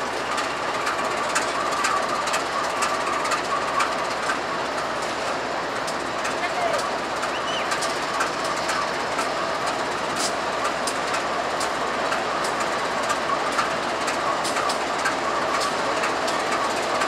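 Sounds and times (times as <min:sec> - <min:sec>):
freight train rolling past: 0:00.0 - 0:17.0
wheels clicking over rail joints: 0:00.1 - 0:17.0.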